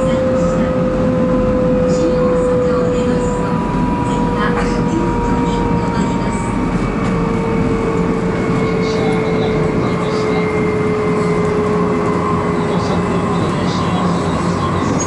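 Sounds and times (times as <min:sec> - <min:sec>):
train running rumble and hiss: 0:00.0 - 0:15.0.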